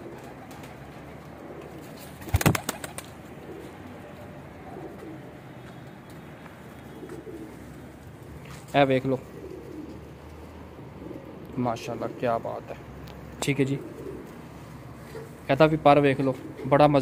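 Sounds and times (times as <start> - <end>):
pigeons cooing: 0.0 - 5.4, 6.8 - 17.0.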